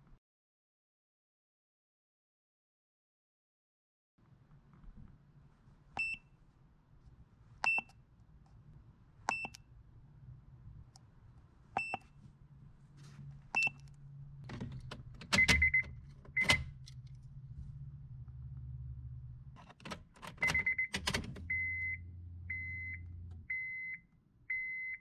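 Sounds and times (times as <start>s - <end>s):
low steady hum: 4.3s - 25.0s.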